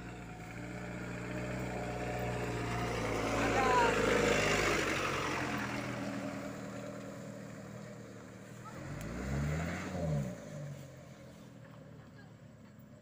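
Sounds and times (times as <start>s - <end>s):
truck engine running and revving: 0.0s - 13.0s.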